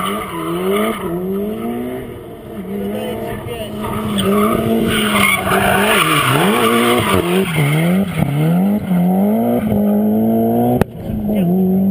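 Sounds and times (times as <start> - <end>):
tyre skid noise: 0.0 - 10.0
rally car engine revving: 0.0 - 11.9.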